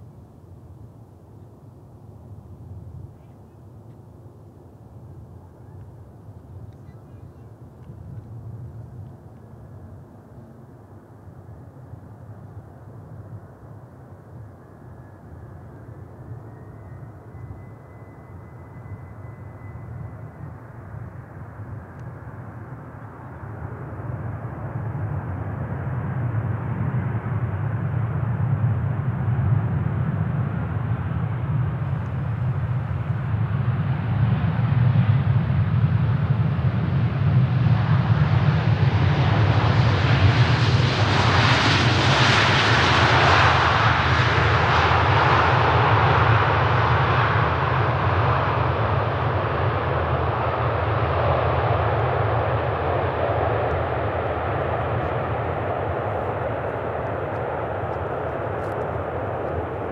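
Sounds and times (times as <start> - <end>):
jet engines rumbling and hissing: 0.1 - 59.9.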